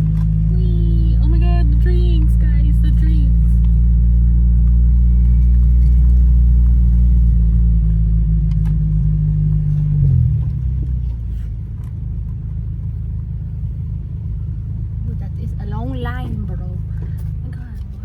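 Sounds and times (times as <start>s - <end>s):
car engine and exhaust droning: 0.0s - 18.0s.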